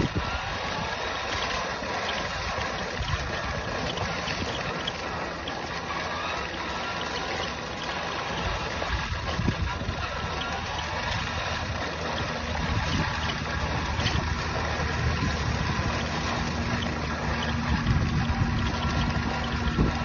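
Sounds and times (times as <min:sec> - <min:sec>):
wind on microphone: 0:00.0 - 0:05.2, 0:08.2 - 0:20.0
rc truck drivetrain hum: 0:00.0 - 0:20.0.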